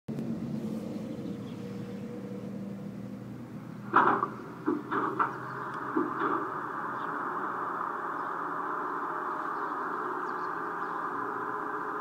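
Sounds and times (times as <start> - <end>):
model railway motor humming: 0.1 - 12.0.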